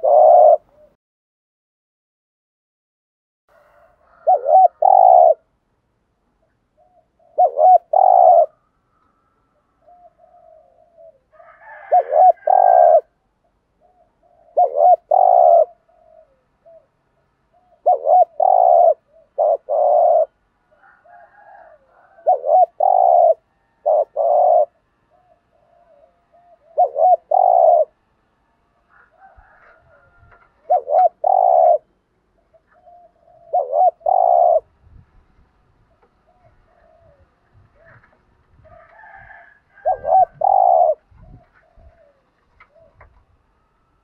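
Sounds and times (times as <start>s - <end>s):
dove cooing: 0.0s - 1.0s, 3.6s - 5.5s, 6.4s - 28.1s, 28.7s - 34.8s, 35.8s - 44.0s.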